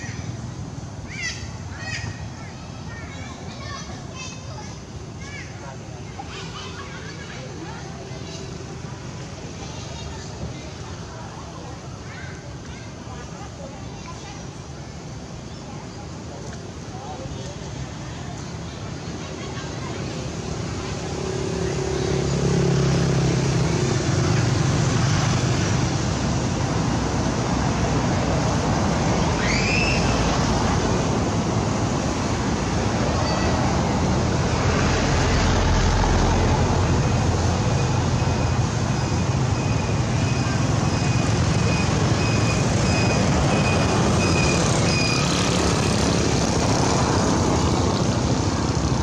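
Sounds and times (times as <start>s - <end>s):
road traffic rumble: 0.0s - 49.0s.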